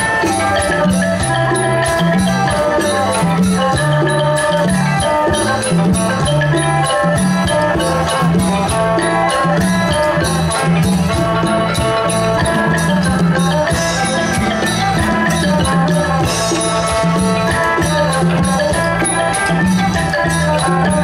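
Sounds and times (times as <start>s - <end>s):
driving percussion beat: 0.0s - 21.0s
folk ensemble playing: 0.0s - 21.0s.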